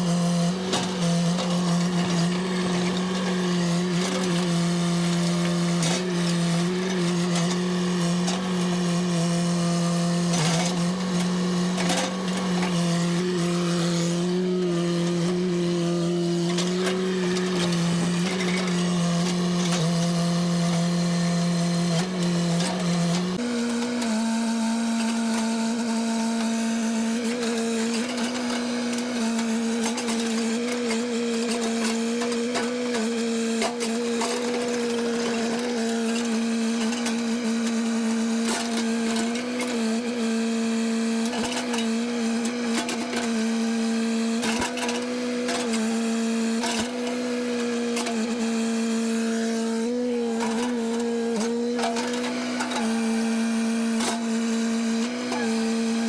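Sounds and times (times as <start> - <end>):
chainsaw at full throttle: 0.0 - 56.0.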